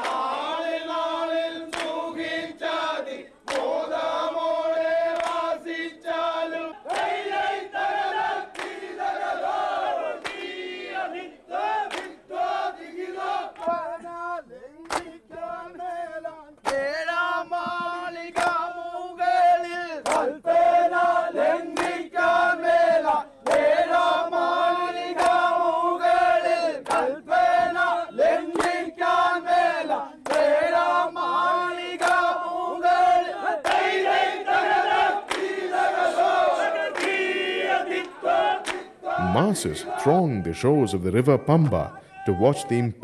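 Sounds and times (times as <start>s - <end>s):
men singing in unison: 0.0s - 40.3s.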